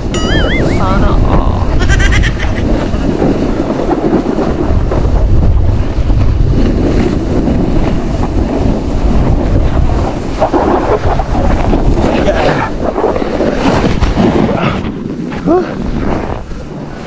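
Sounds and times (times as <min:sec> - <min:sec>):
wind buffeting microphone: 0:00.0 - 0:17.0
snowboard scraping packed snow: 0:02.6 - 0:17.0.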